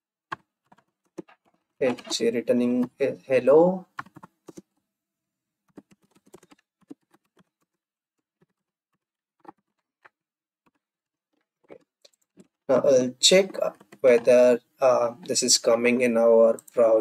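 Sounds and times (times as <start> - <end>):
keyboard typing: 0.3 - 3.1, 3.9 - 4.8, 5.6 - 17.0.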